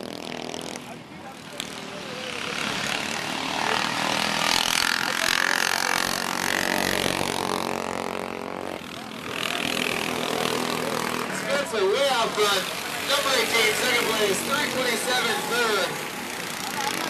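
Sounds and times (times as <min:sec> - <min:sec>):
minibike engines passing: 0:00.0 - 0:17.0.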